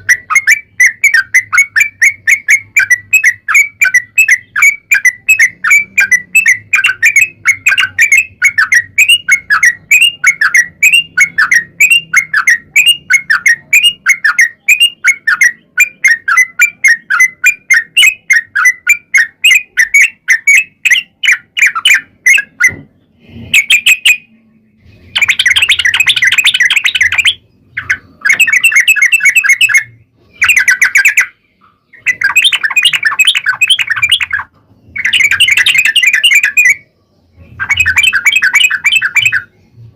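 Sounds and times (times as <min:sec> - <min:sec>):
bird chattering song: 0:00.0 - 0:39.9
bird chirping: 0:00.0 - 0:39.9.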